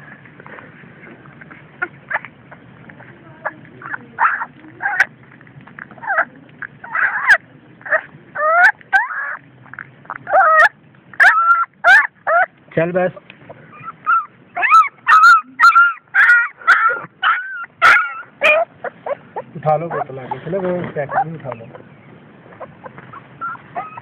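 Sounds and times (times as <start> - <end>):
puppy whimpering: 1.4 - 24.0.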